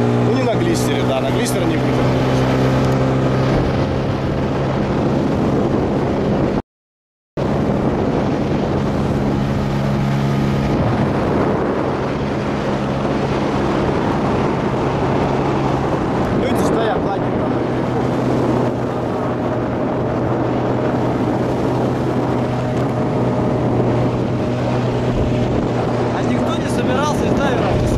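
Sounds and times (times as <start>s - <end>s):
outboard motor running: 0.0s - 6.6s, 7.4s - 27.9s
wind and water rushing: 0.0s - 6.6s, 7.4s - 27.9s.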